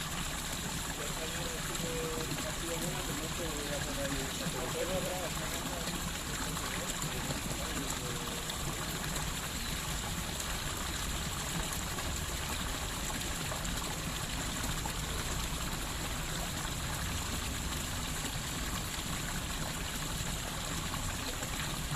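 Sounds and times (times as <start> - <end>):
water fountain splashing: 0.0 - 21.9.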